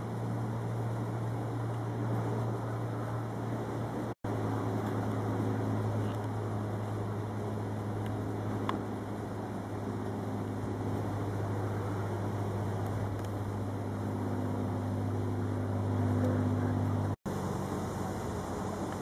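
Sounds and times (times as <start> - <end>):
constant rushing noise: 0.0 - 19.0
low mechanical hum: 0.0 - 19.0.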